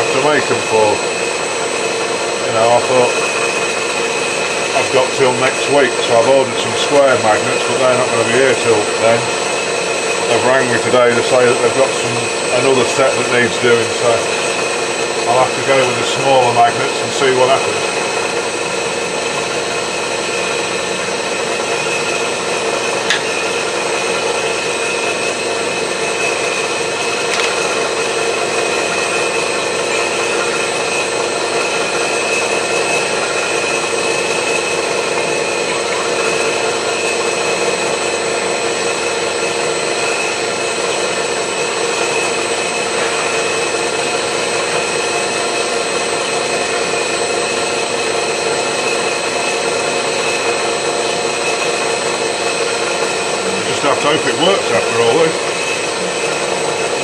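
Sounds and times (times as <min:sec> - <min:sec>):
drive whine: 0:00.0 - 0:57.0
milling machine cutting metal: 0:00.0 - 0:57.0.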